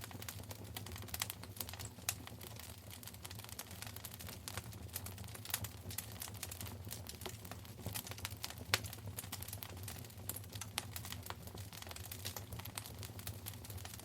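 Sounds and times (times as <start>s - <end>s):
fireplace fire crackling and popping: 0.0s - 14.0s
low rumble of flames: 0.0s - 14.0s.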